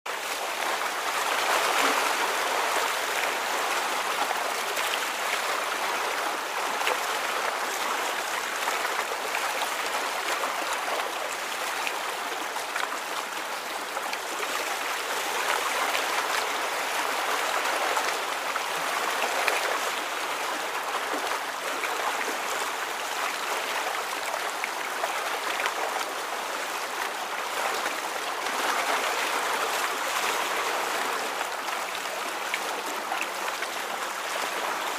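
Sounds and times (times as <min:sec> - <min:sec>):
water rushing and trickling: 0:00.1 - 0:34.9.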